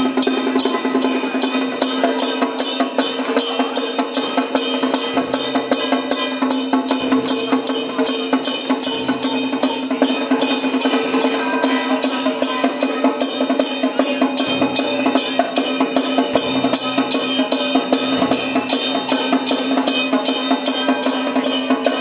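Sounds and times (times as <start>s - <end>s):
drums and percussion beating: 0.0s - 22.0s.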